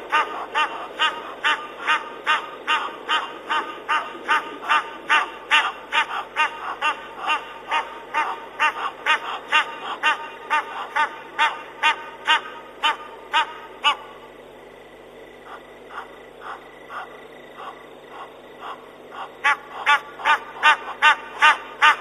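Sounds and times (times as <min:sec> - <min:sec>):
animal calling rhythmically: 0:00.0 - 0:14.4, 0:15.2 - 0:22.0.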